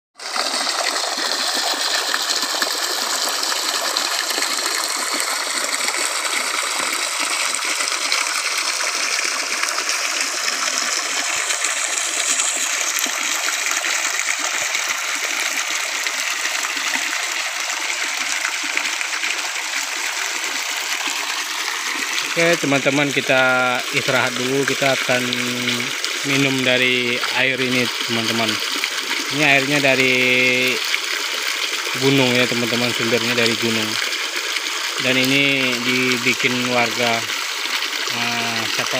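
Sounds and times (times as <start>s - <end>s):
small cascade running: 0.2s - 38.9s
water pouring from a pipe: 0.2s - 38.9s.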